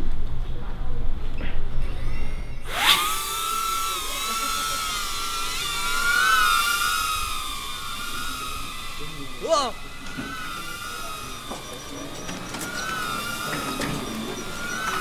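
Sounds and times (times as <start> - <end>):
drone propeller whine: 2.6 - 15.0.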